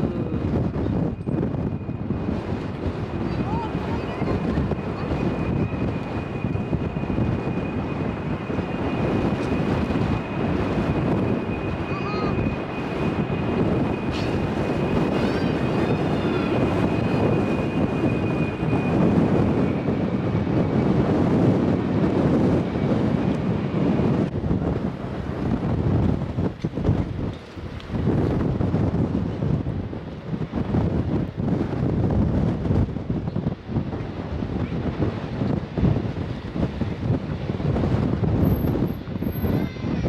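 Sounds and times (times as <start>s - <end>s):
jet airliner engines: 0.0s - 40.0s
wind buffeting microphone: 0.0s - 40.0s.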